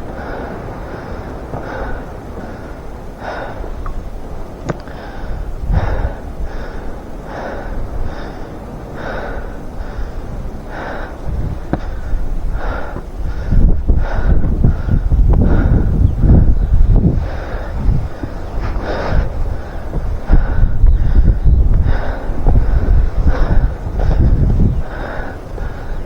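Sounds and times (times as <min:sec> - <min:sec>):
person breathing hard: 0:00.0 - 0:04.0, 0:04.6 - 0:26.0
wind rumbling on microphone: 0:00.0 - 0:26.0.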